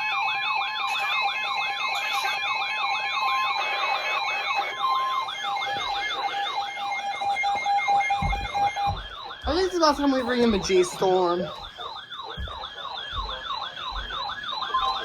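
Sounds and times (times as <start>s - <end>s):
electronic siren yelping: 0.0s - 15.0s
steady high tone: 1.8s - 15.0s.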